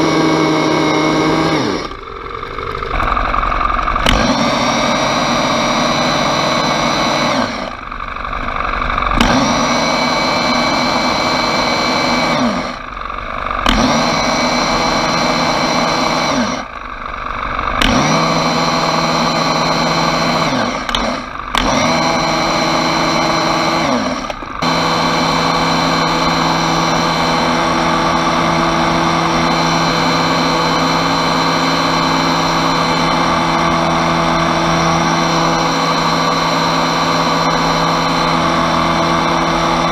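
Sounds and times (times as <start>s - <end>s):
small petrol engine revving: 0.0s - 39.9s.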